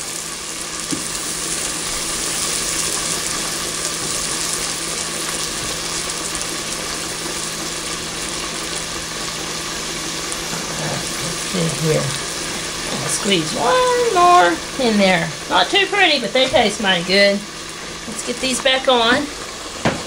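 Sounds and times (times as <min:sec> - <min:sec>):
dough sizzling in butter: 0:00.0 - 0:20.0.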